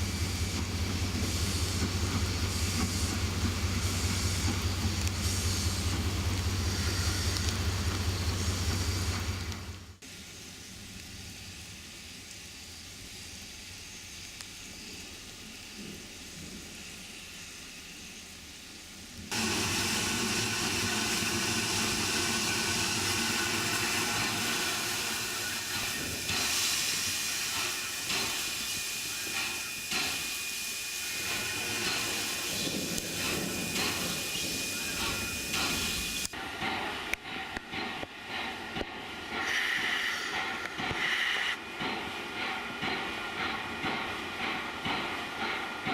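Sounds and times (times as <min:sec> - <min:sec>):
steam locomotive venting steam: 0:00.0 - 0:45.9.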